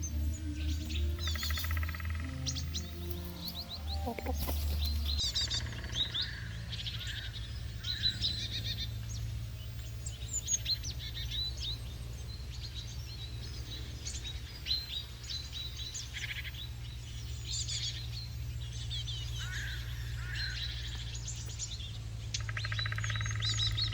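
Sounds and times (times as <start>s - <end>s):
small birds chirping: 0.0s - 23.9s
steady low hum: 0.0s - 23.9s.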